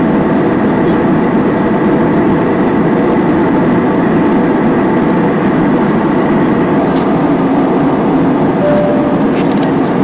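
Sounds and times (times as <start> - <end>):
jet airliner cabin noise: 0.0 - 10.0.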